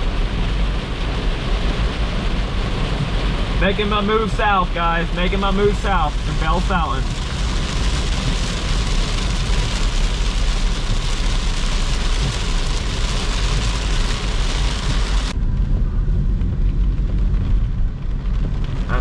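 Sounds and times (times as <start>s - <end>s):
heavy rain on car roof: 0.0s - 19.0s
road and engine rumble: 0.0s - 19.0s.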